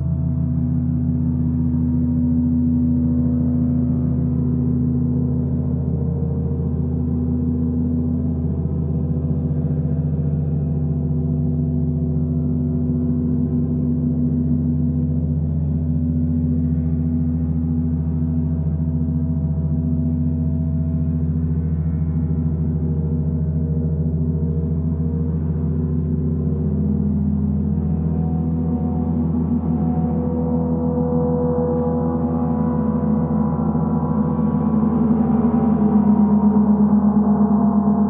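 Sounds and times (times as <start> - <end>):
large gongs droning: 0.0 - 38.0.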